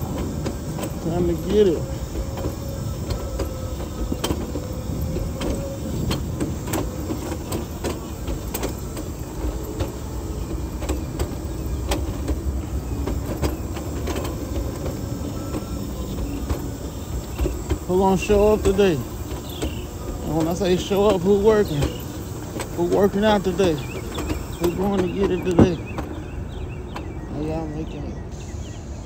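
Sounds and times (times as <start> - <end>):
sharp clicks and knocks: 0.0 - 26.2
wheelchair wheels rumbling on concrete: 0.0 - 28.2.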